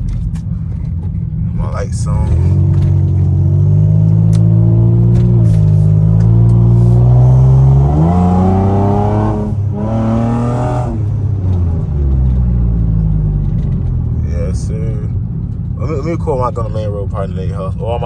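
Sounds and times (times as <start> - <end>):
loud car exhaust pulling away: 0.0 - 16.0.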